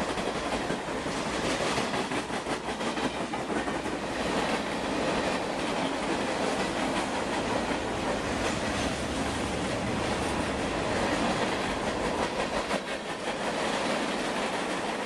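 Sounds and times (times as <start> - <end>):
sharp clicks of train wheels: 0.0 - 15.0
train wheels rumbling on rails: 0.0 - 15.0.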